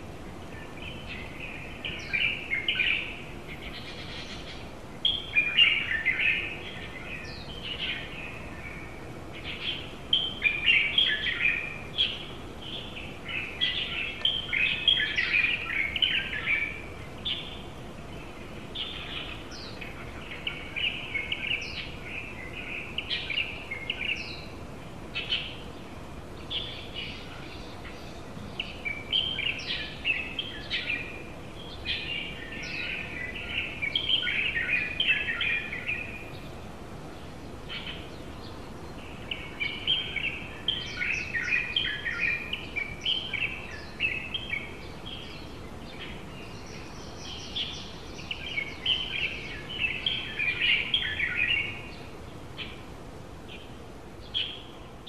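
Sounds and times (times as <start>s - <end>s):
birds twittering high chirps: 0.0s - 55.0s
faint background hiss: 0.0s - 55.0s.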